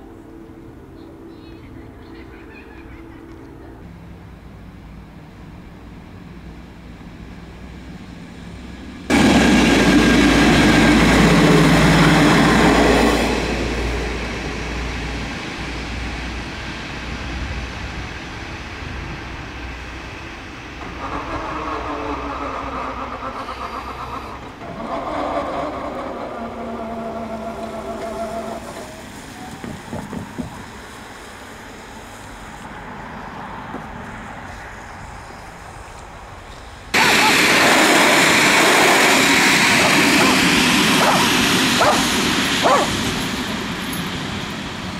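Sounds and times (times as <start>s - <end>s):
train wheel noise: 0.0s - 32.7s, 33.6s - 44.9s
diesel train engine rumble: 0.0s - 44.9s
outdoor ambience: 0.0s - 44.9s.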